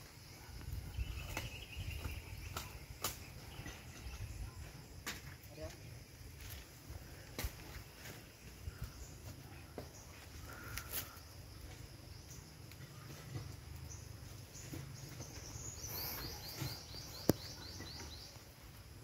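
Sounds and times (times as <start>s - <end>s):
bird chirping: 0.0s - 5.0s, 8.0s - 18.8s.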